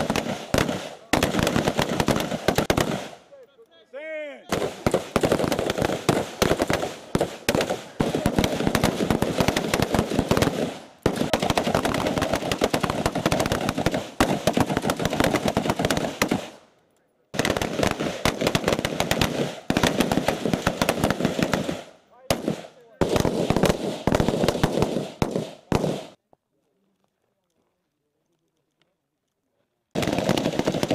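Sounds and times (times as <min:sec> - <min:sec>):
rifles firing: 0:00.0 - 0:03.3, 0:04.5 - 0:16.6, 0:17.3 - 0:26.2, 0:29.9 - 0:30.9.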